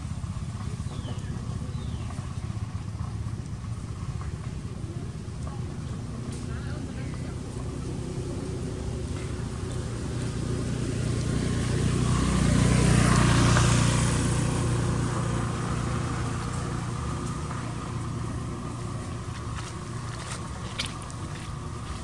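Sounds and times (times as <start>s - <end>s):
vehicle engine hum passing by: 0.0s - 22.0s.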